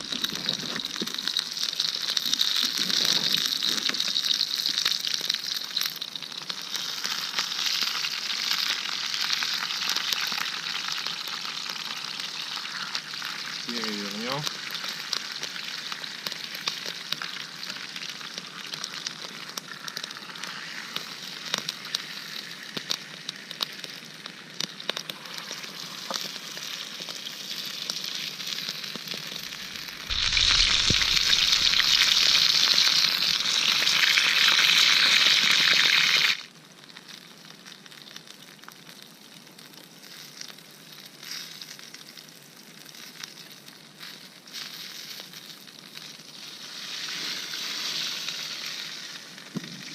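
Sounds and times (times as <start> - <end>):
chicken sizzling in a skillet: 0.0 - 49.9
small crackles: 0.0 - 49.9.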